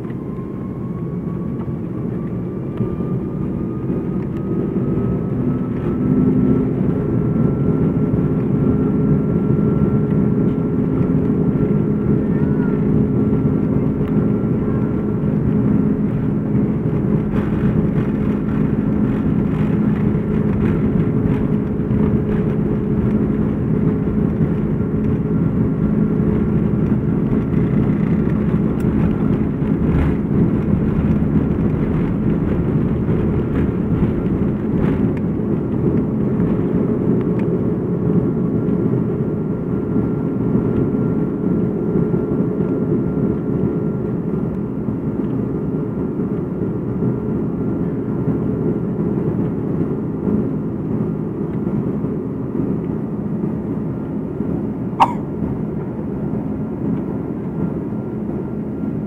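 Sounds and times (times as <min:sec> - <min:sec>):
jet engines roaring: 0:00.0 - 0:59.0
wheels rumbling on runway: 0:00.0 - 0:59.0.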